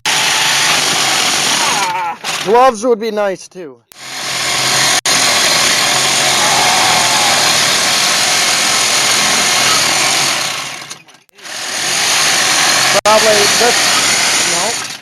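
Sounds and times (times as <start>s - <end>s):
reciprocating saw cutting steel: 0.0s - 2.8s, 3.9s - 15.0s.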